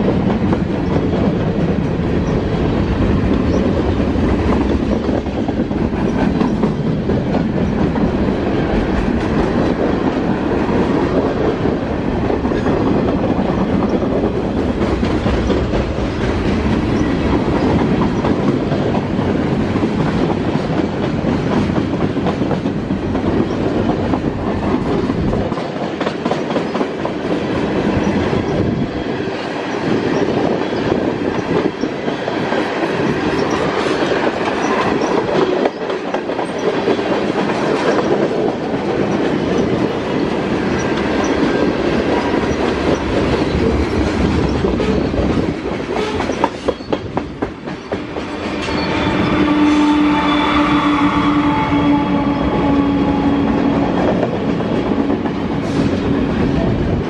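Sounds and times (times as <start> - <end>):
train wheels clicking over rail joints: 0.0 - 49.0.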